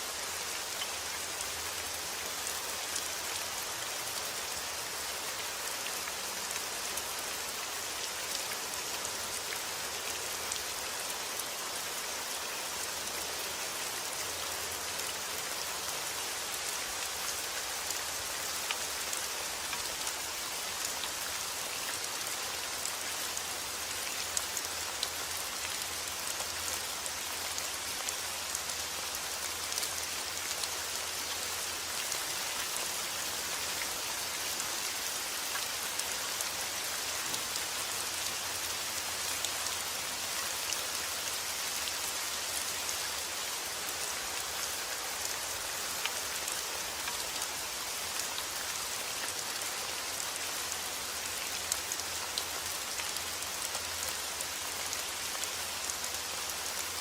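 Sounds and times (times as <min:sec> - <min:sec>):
steady rain pattering: 0:00.0 - 0:57.0.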